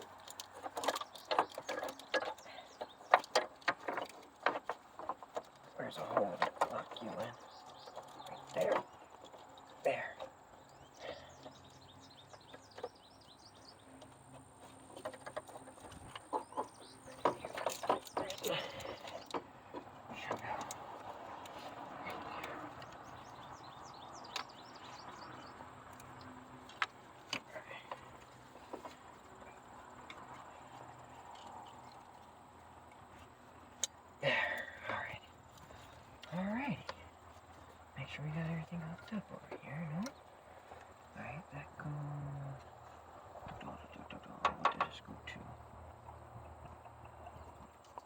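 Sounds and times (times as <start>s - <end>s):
light clicks and knocks of parts: 0.0s - 48.0s
small birds chirping: 0.0s - 48.0s.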